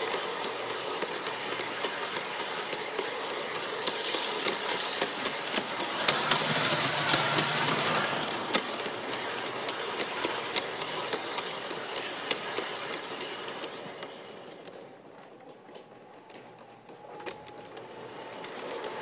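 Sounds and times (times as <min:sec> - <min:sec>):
model train wheels and motor whirring: 0:00.0 - 0:19.0
wheels clicking over rail joints: 0:00.0 - 0:19.0.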